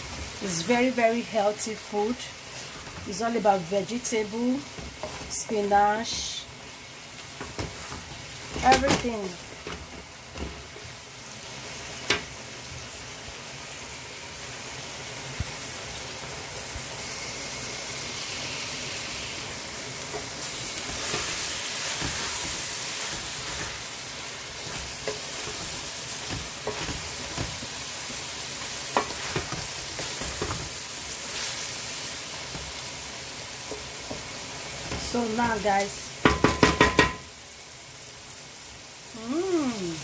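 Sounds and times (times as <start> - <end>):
vegetables sizzling in pot: 0.0 - 40.0.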